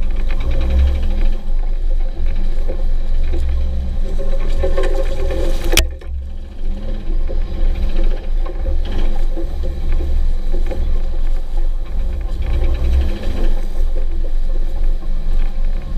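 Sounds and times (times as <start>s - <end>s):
engine with rhythmic clatter: 0.0s - 15.9s.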